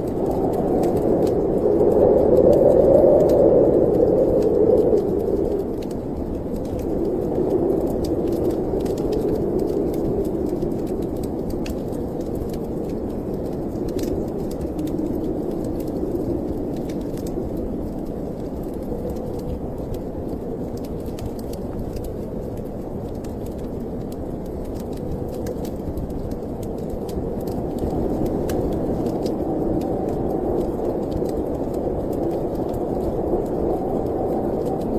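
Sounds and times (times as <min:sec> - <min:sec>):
low rushing wind: 0:00.0 - 0:34.9
wood fire crackling: 0:00.0 - 0:34.9.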